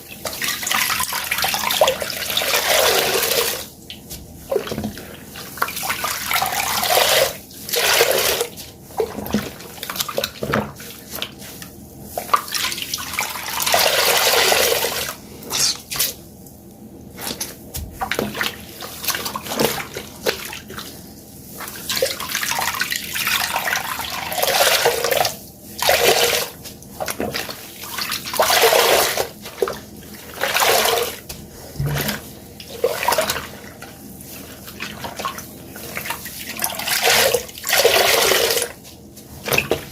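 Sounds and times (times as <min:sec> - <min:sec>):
wet sponges squelching: 0:00.0 - 0:16.3, 0:17.0 - 0:39.9.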